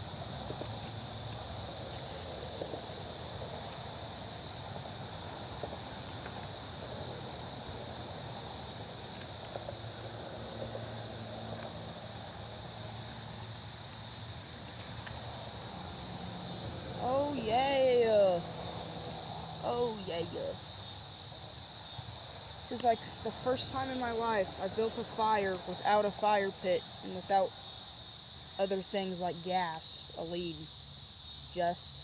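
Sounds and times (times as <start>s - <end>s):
fire crackling: 0.0s - 32.0s
insect chorus: 0.0s - 32.0s.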